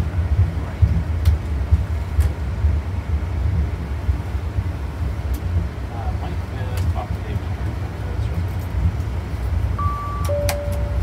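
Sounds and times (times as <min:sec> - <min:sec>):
airliner cockpit rumble: 0:00.0 - 0:11.0.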